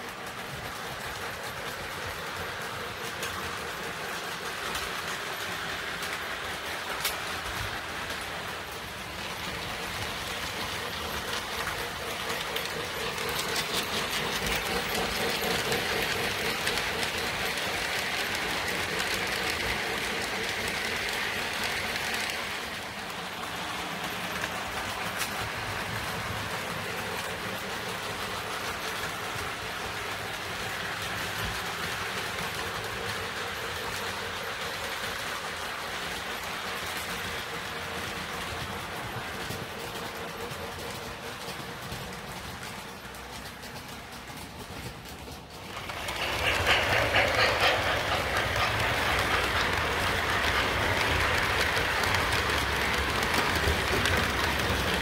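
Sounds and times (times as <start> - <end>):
model trains running on track: 0.0 - 55.0.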